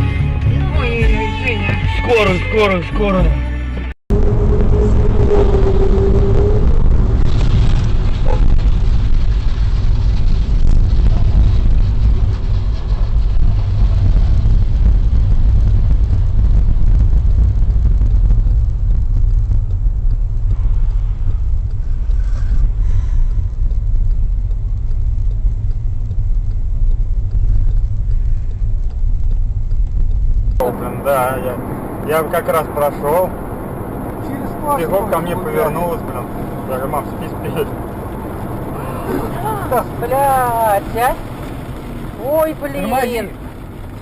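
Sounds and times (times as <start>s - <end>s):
car engine: 0.0s - 44.0s
road rumble: 0.0s - 44.0s.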